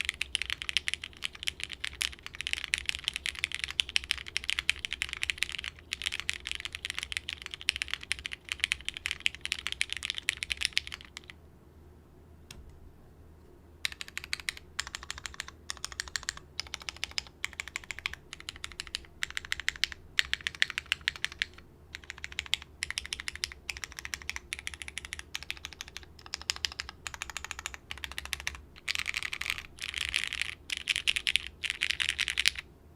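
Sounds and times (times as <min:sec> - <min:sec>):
mechanical keyboard typing: 0:00.0 - 0:11.3, 0:13.8 - 0:32.6.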